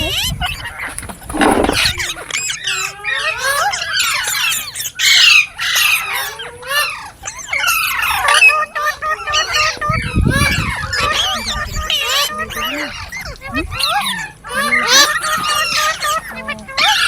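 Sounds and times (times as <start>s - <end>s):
parrots squawking and chattering: 0.0s - 17.0s.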